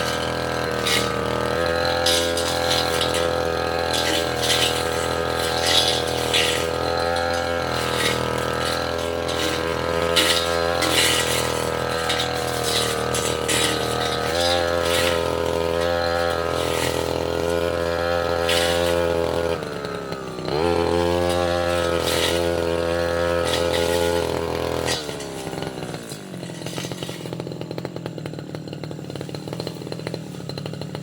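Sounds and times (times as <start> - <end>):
blade rasping into saplings: 0.0 - 31.0
brush cutter engine at high revs: 0.0 - 31.0.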